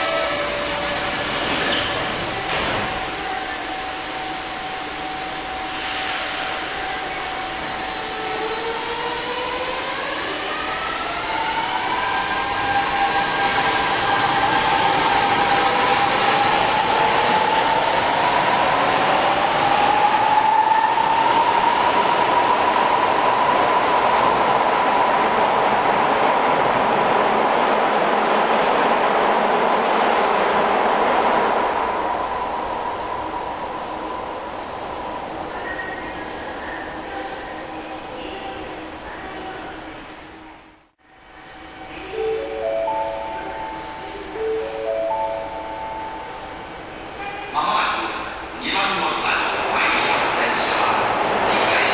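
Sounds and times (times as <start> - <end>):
train running rush: 0.0 - 40.6, 41.2 - 51.9.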